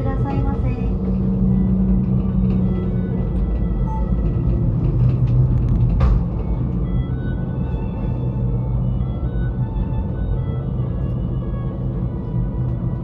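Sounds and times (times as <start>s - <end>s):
gondola cabin hum and rumble: 0.0s - 13.0s.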